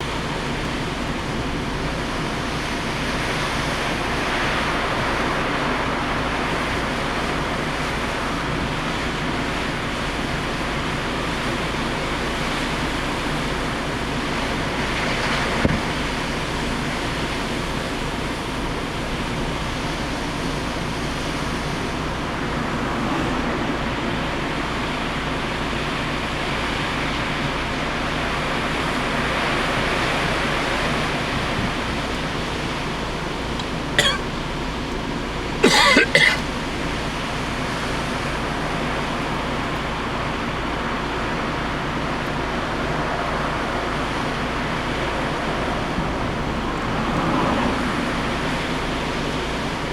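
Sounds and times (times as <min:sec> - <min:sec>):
heavy surf: 0:00.0 - 0:49.9
strong wind: 0:00.0 - 0:49.9.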